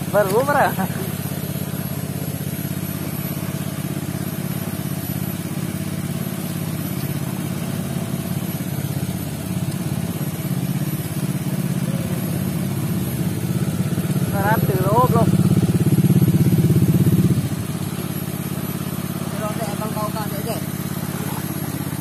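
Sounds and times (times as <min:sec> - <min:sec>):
petrol engine running steadily: 0:00.0 - 0:22.0.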